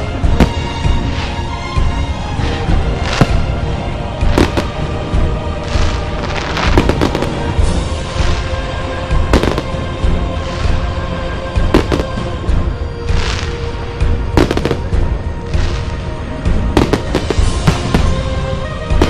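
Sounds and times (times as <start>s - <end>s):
fireworks banging: 0.0s - 12.5s, 13.1s - 19.0s
fireworks crackling: 0.0s - 19.0s
music: 0.0s - 19.0s.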